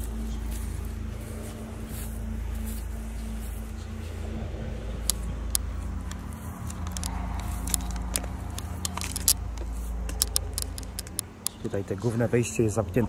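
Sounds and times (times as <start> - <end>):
footsteps crunching on dry ground: 0.0 - 12.4
steady low rumble: 0.0 - 13.0.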